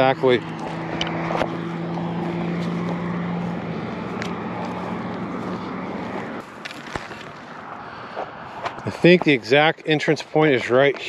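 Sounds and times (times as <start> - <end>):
road traffic engine hum: 0.0 - 11.0
tyre noise: 0.0 - 11.0.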